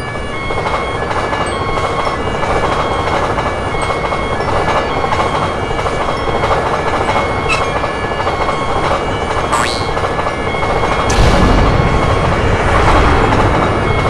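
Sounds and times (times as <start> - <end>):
train running past: 0.0 - 14.0.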